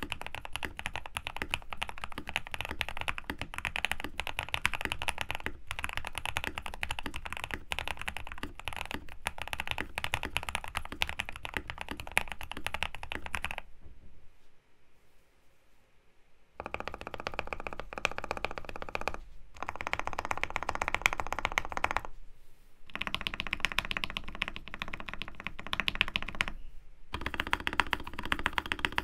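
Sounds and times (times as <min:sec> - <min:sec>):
fast mechanical keyboard typing: 0:00.0 - 0:13.7, 0:16.6 - 0:22.1, 0:22.9 - 0:29.0.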